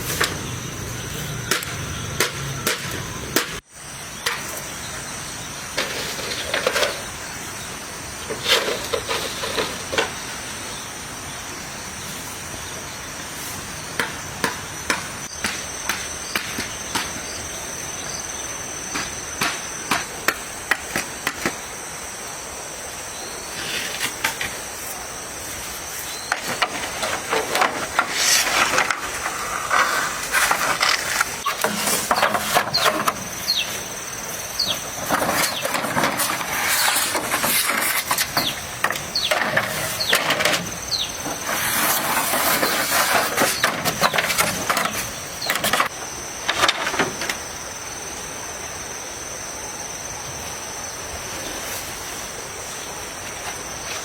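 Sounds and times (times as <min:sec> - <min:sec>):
insect chirring: 0:00.0 - 0:54.0.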